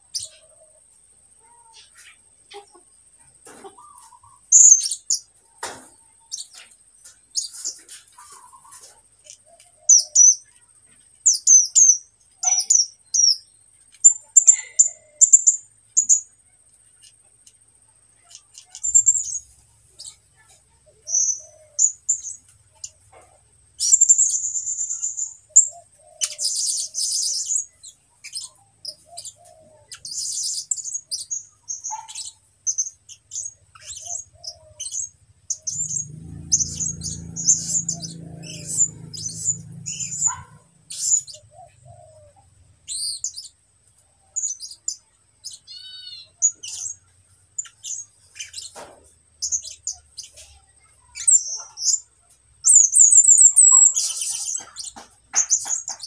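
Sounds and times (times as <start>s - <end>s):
songbird chirping and twittering: 0.0s - 56.0s.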